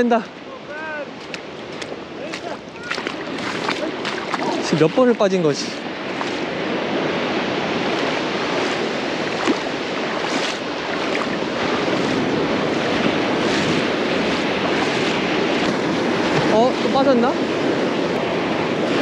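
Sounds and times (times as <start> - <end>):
surf breaking on sandy beach: 0.0 - 19.0
wind on microphone: 1.1 - 19.0.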